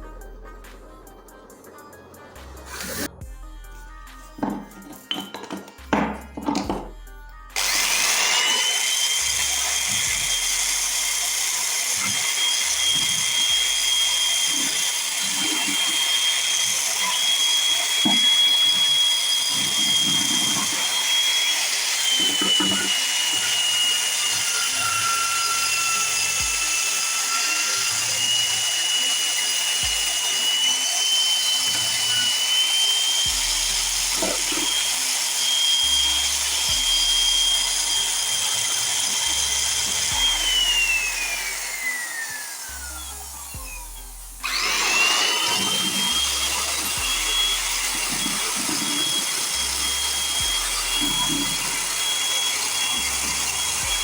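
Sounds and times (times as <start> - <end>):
electric power tool whining: 0.1 - 3.2, 4.3 - 54.0.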